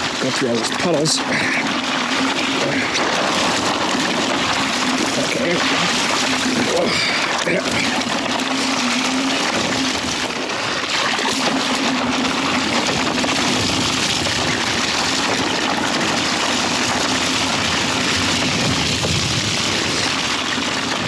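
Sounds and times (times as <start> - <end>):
faint electric motor hum: 0.0 - 21.0.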